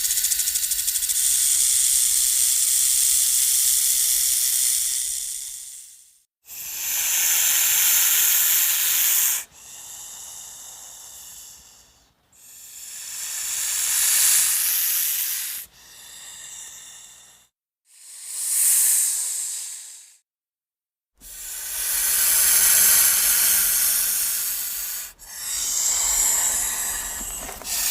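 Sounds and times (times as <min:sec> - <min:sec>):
snake hissing: 0:00.0 - 0:20.2, 0:21.2 - 0:27.9.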